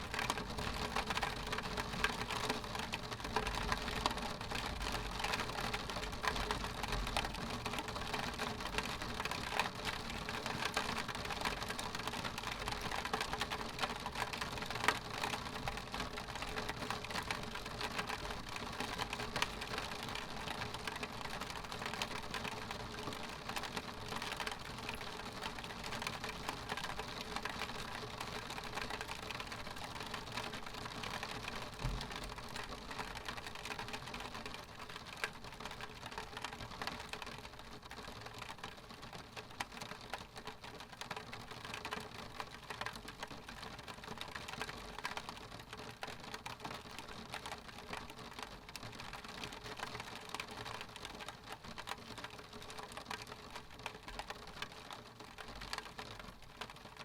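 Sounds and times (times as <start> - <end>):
rain pattering on window glass: 0.0 - 57.0.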